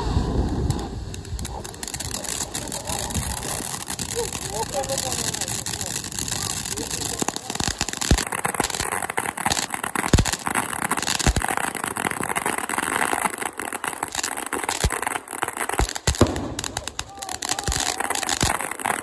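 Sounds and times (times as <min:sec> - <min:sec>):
firework fountain crackling: 0:00.0 - 0:19.0.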